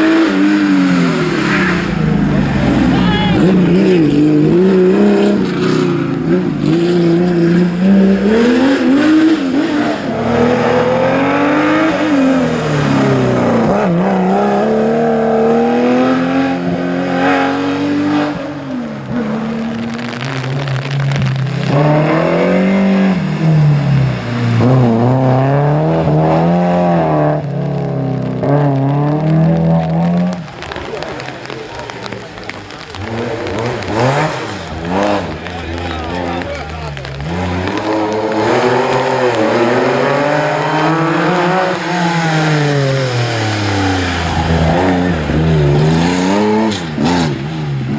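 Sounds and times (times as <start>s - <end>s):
lower-pitched car engine: 0.0s - 47.9s
rally car engines at full throttle: 0.0s - 47.9s.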